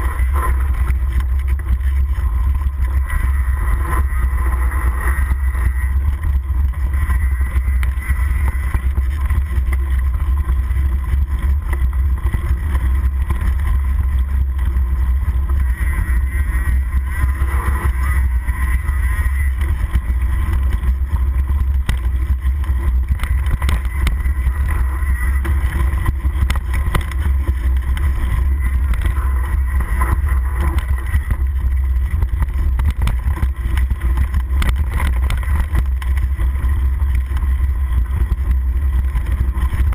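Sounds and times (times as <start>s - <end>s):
heavy wind noise on microphone: 0.0s - 39.9s
tyres and frame rattling on dirt: 0.0s - 39.9s.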